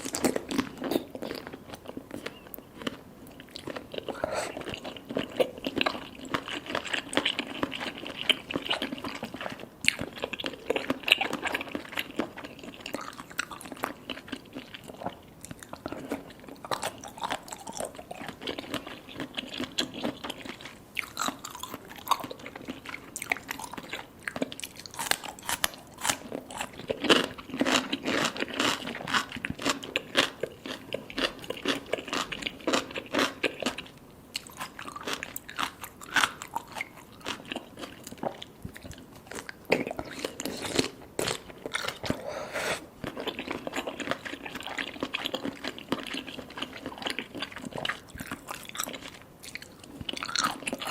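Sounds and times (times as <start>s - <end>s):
crunchy chewing and biting: 0.0s - 50.9s.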